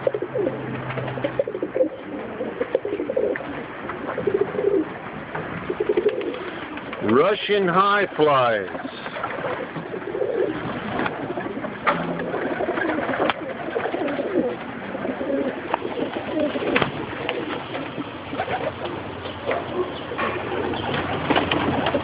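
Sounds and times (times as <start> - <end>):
pigeons cooing: 0.0 - 7.1, 8.6 - 22.0.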